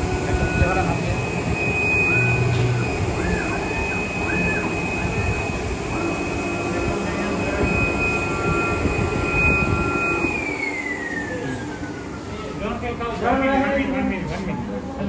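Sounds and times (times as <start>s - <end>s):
thin high tone: 0.0s - 14.2s
short machine whines: 0.0s - 14.3s
cutting machine running: 0.0s - 15.0s.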